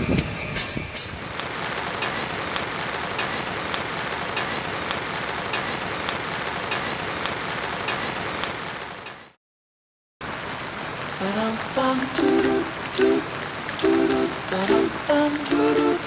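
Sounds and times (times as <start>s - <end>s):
steady rain falling: 1.1s - 9.3s, 10.2s - 16.0s.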